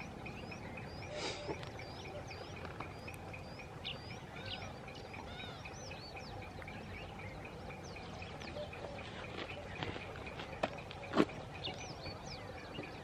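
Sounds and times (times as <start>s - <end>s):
background hiss: 0.0s - 12.8s
arched bird calls: 0.0s - 13.0s
birds chirping: 0.0s - 13.0s.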